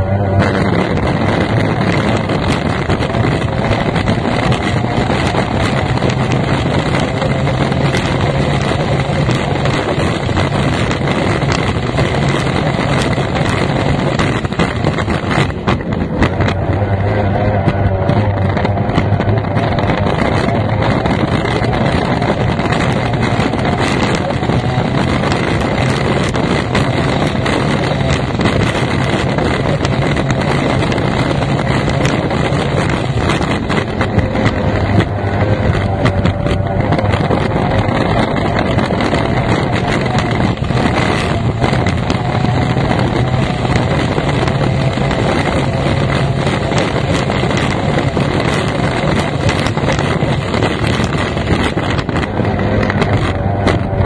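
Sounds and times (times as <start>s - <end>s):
outboard engine racing: 0.0s - 54.0s
wind on microphone: 0.0s - 54.0s.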